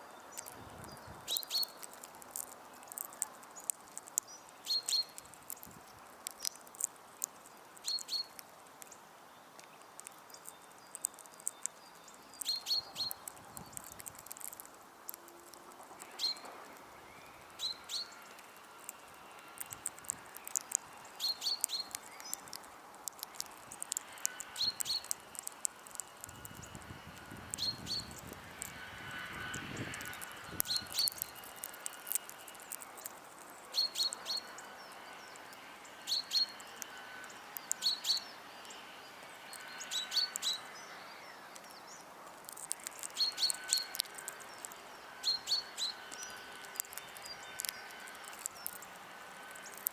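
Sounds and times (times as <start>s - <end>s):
birds pecking at feeder: 0.3s - 49.9s.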